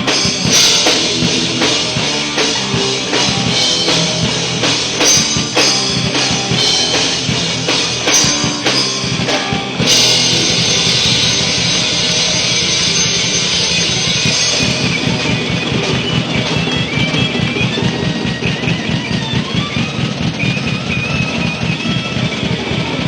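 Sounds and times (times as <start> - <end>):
drum and cymbal hits: 0.0 - 23.0
live rock band: 0.0 - 23.0.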